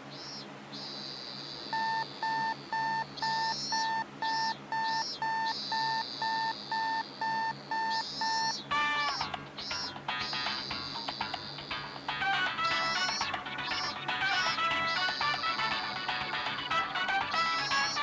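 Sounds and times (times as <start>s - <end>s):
high chirping: 0.0s - 18.0s
alarm clock beeping: 1.8s - 18.0s.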